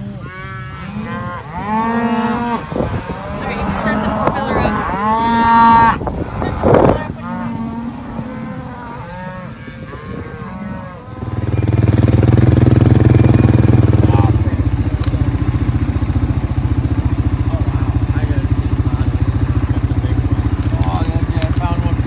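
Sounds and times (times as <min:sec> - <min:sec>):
vehicle engine droning: 0:00.0 - 0:09.1, 0:11.0 - 0:22.0
cattle mooing: 0:00.0 - 0:22.0.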